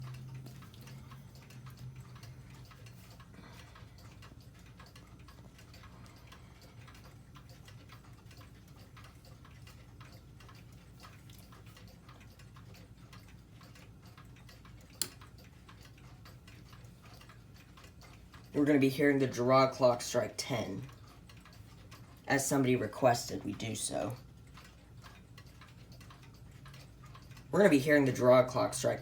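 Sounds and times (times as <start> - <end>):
wall clock ticking: 0.0 - 29.0.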